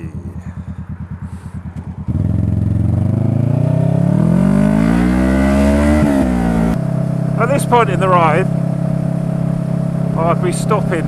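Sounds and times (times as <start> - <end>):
motorcycle engine idling and accelerating: 0.0 - 11.0.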